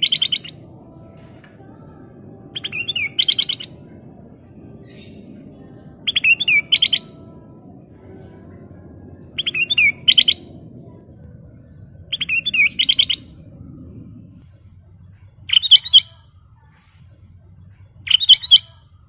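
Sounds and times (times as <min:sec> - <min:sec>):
bird singing: 0:00.0 - 0:16.9, 0:17.6 - 0:19.0
steady low rumble: 0:00.0 - 0:19.0.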